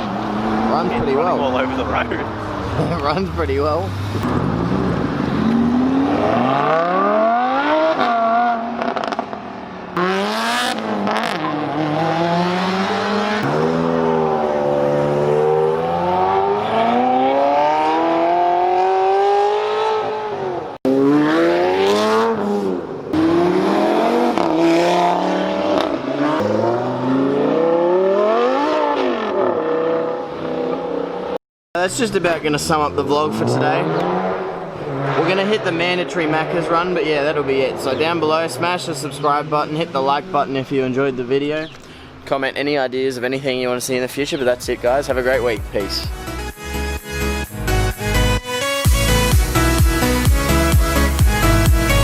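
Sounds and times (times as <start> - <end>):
car engines revving: 0.0 - 48.4.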